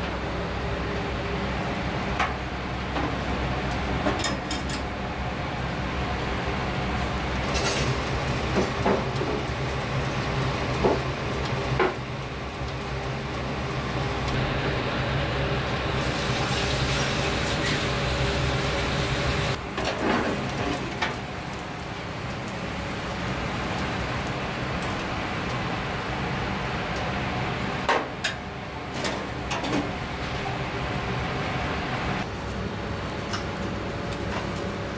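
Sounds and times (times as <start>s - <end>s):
kitchen machinery humming: 0.0s - 34.9s.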